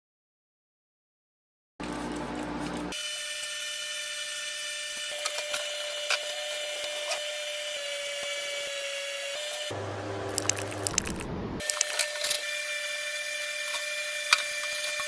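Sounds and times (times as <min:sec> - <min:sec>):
electric power tool running: 0:01.8 - 0:10.8, 0:11.6 - 0:15.0.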